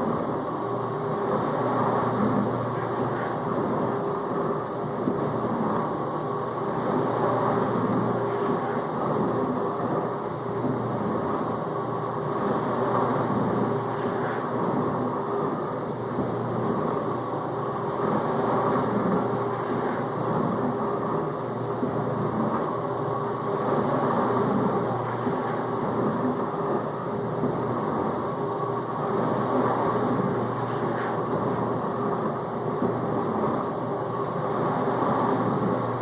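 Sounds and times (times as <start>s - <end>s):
dishwasher pump motor humming: 0.0s - 36.0s.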